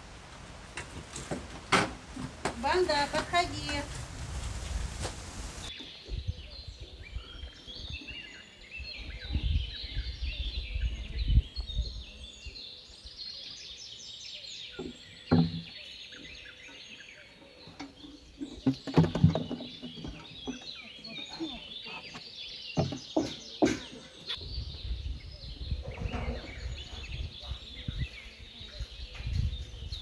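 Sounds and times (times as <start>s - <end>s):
birds chirping: 5.6s - 30.0s.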